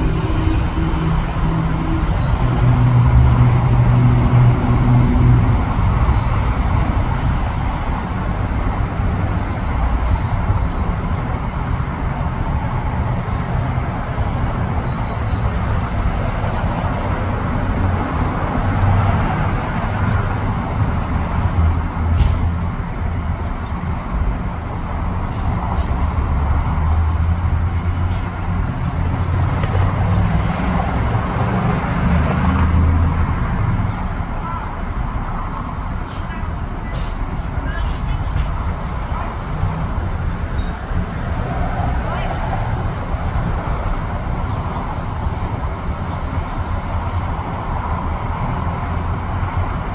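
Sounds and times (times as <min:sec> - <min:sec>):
highway traffic rushing: 0:00.0 - 0:49.9.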